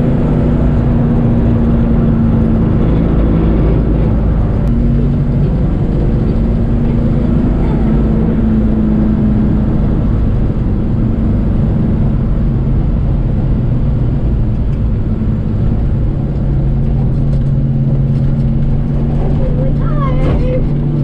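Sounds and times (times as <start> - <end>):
car engine droning: 0.0 - 21.0
low steady engine tone: 0.0 - 21.0
road and tyre noise: 0.0 - 21.0.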